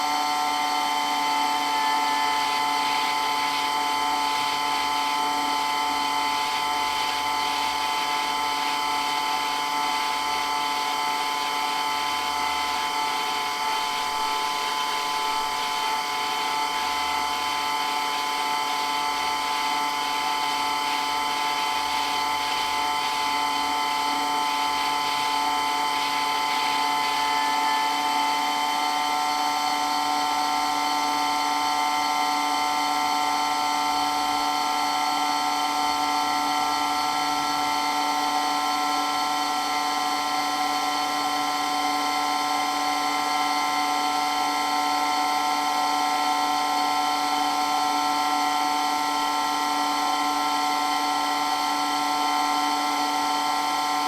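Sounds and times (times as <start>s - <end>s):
water pump running with whine: 0.0s - 54.0s.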